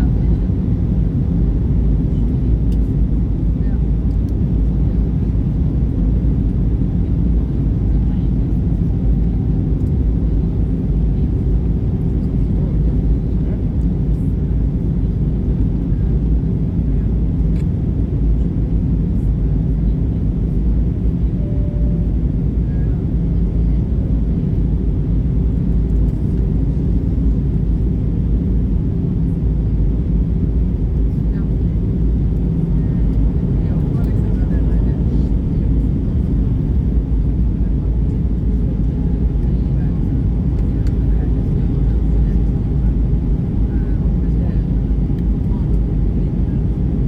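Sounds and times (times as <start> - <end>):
airplane engine rumble: 0.0 - 47.0.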